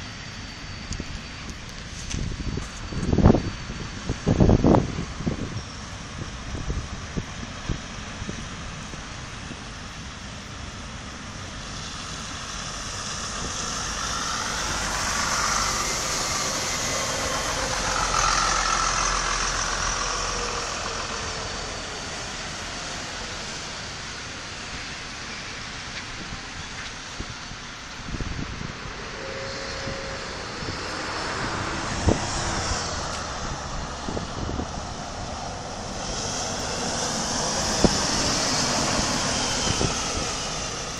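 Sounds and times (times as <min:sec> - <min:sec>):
bus driving past: 0:07.8 - 0:40.9.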